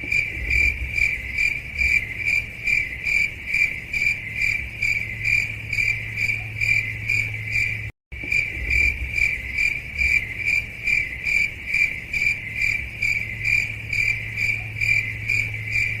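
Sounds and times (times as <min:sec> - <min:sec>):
cricket chirping: 0:00.0 - 0:16.0
steady low hum: 0:00.0 - 0:16.0.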